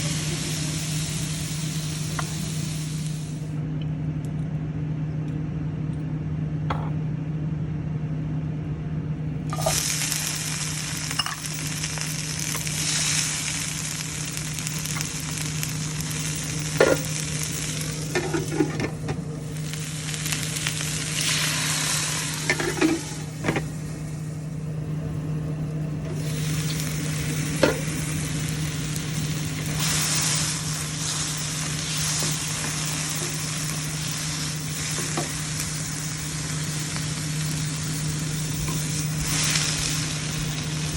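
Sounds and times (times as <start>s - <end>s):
food sizzling in a pan: 0.0s - 3.5s, 9.4s - 40.9s
steady low hum: 0.0s - 40.9s.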